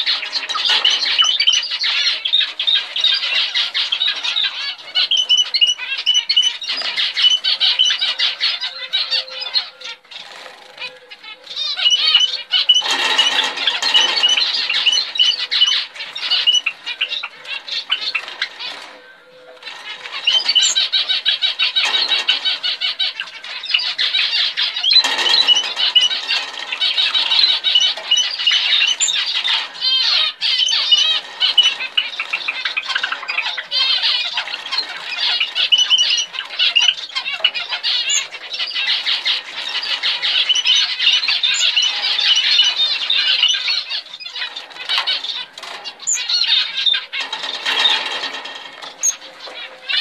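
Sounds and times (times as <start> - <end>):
cage birds chirping: 0.0 - 50.0.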